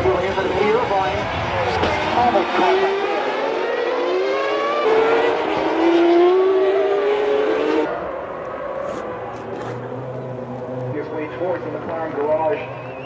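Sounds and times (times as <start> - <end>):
distant engine: 0.0 - 13.0
racing car engine high revs: 0.0 - 13.0.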